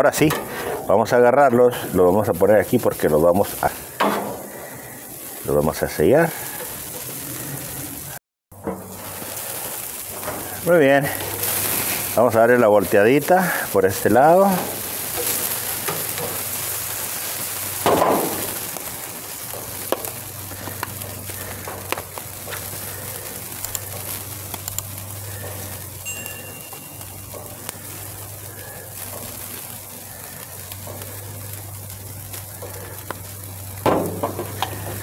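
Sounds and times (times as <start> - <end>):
steaks sizzling on a grill: 0.0 - 35.0.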